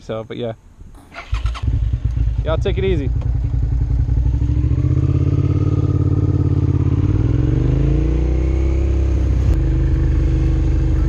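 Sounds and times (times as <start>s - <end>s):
motorcycle engine accelerating: 1.0s - 11.0s.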